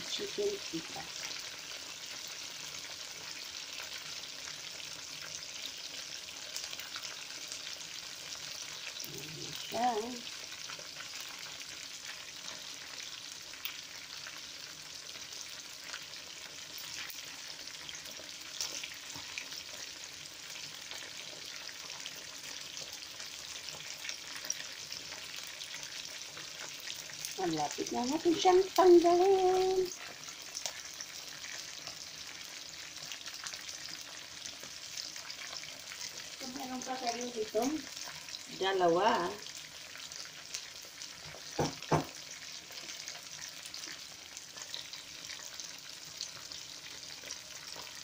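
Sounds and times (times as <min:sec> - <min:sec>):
chicken wings sizzling in oil: 0:00.0 - 0:48.0.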